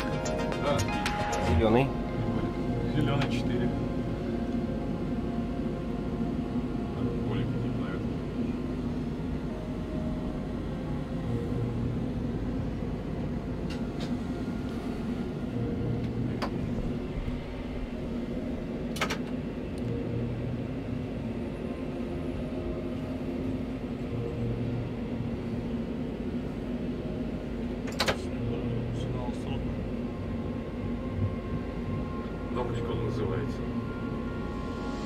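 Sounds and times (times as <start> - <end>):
electric train hum: 0.0 - 35.0
low drone: 0.0 - 35.0.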